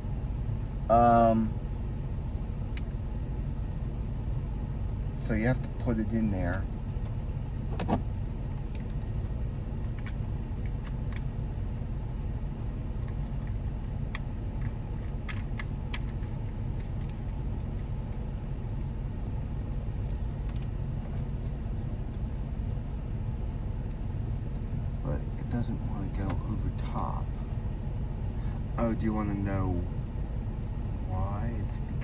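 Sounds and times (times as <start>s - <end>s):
air conditioning running: 0.0s - 32.0s
car engine idling: 0.0s - 32.0s.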